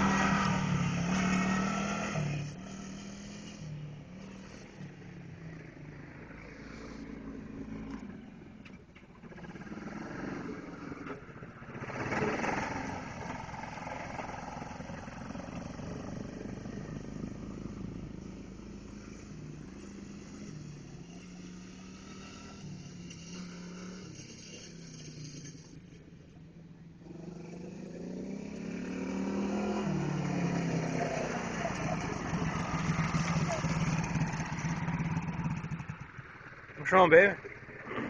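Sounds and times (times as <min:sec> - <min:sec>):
atv engines revving: 0:00.0 - 0:38.0.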